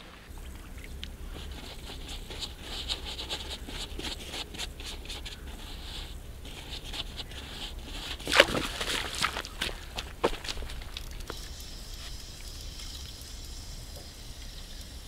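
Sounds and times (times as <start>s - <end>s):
rustling and scraping handling: 0.0s - 12.2s.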